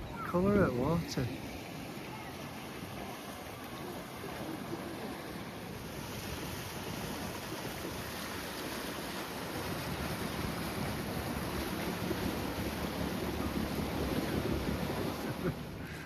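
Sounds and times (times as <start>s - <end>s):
sea waves: 0.0s - 16.0s
seaside wind: 0.0s - 16.0s.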